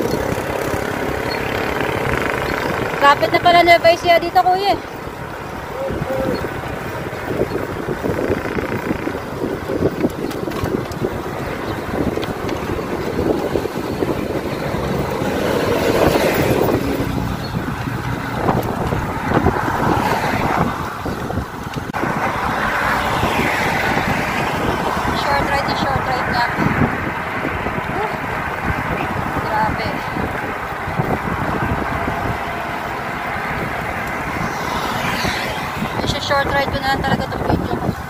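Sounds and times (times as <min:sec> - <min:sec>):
traffic passing: 0:00.0 - 0:38.0
wind buffeting microphone: 0:00.0 - 0:38.0.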